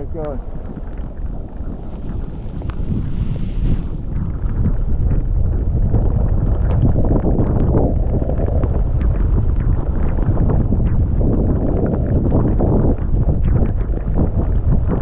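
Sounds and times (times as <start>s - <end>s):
heavy wind rumbling on microphone: 0.0s - 15.0s.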